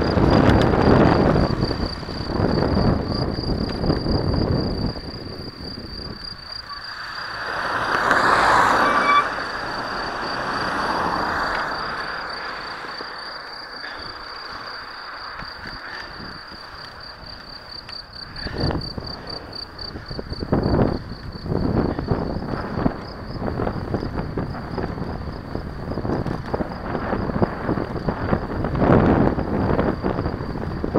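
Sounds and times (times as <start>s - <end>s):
bicycle tyre noise on asphalt: 0.0s - 30.9s
wind rushing over microphone: 0.0s - 30.9s.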